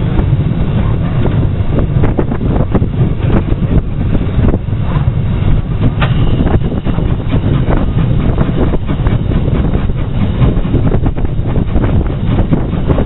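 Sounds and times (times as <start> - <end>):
steam train running: 0.0 - 13.0
wind rumbling on microphone: 0.0 - 13.0.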